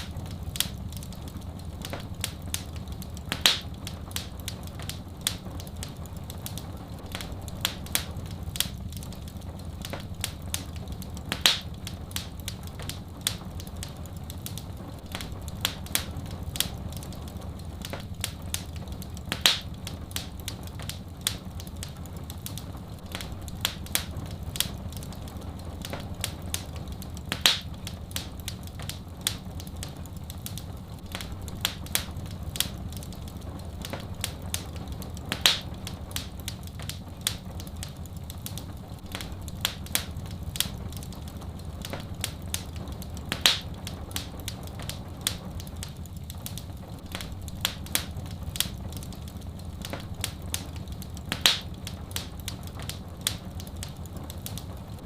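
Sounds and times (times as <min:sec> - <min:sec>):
fire snapping: 0:00.0 - 0:55.0
wood fire crackling: 0:00.0 - 0:55.0.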